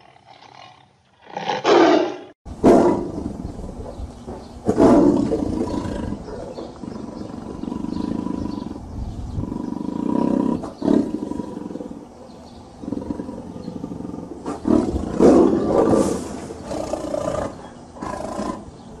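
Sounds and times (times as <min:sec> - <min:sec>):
tiger growling and roaring: 0:00.0 - 0:19.0.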